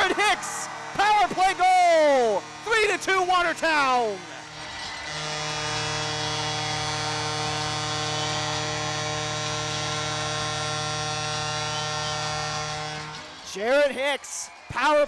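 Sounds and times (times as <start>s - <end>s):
goal horn blast: 0.0s - 13.5s.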